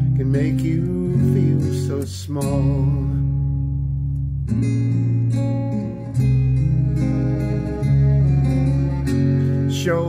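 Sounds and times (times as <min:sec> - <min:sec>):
acoustic guitar strummed chords: 0:00.0 - 0:10.0.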